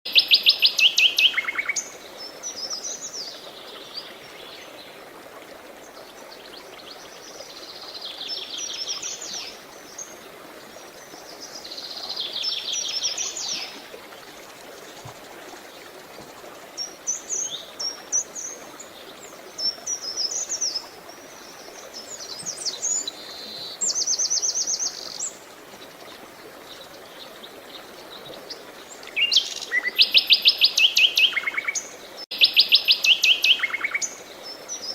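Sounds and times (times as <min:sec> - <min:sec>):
running water hiss: 0:00.1 - 0:34.9.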